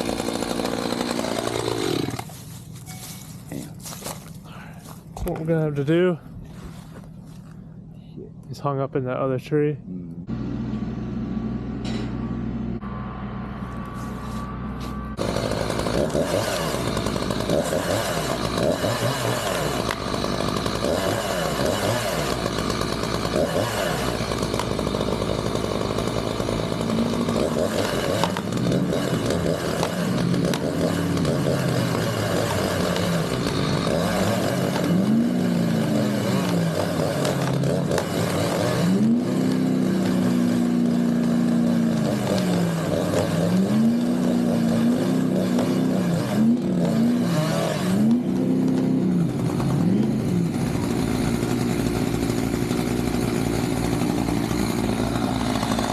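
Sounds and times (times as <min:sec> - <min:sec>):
chainsaw running: 0:00.0 - 0:07.6, 0:15.2 - 0:55.9
vehicle engine revving: 0:09.9 - 0:55.9.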